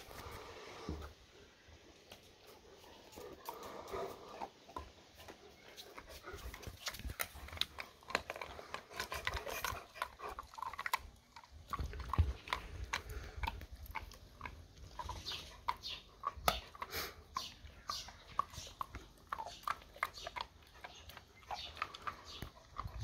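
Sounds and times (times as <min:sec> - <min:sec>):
dog chewing hard treat: 0:03.5 - 0:23.0.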